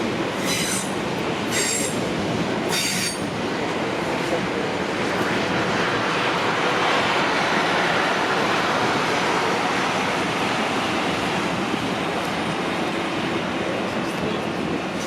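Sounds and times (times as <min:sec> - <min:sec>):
train running past: 0:00.0 - 0:15.0.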